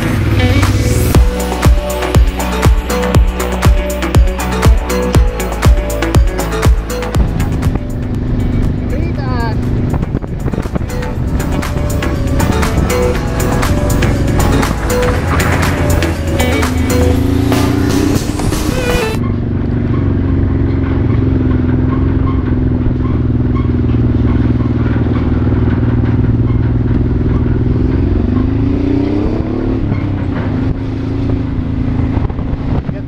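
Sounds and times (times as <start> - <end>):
background music: 0.0 - 32.4
motorcycle engine running: 0.0 - 33.0.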